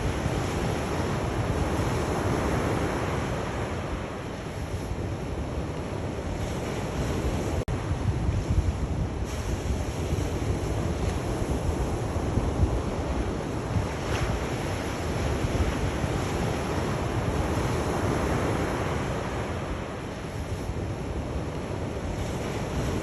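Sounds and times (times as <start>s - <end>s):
sea waves washing ashore: 0.0s - 23.0s.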